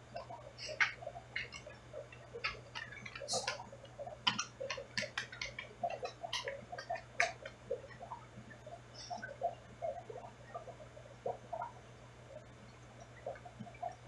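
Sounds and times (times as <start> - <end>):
sharp clicks and ticks underwater: 0.0 - 14.0
steady low hum: 0.0 - 14.0.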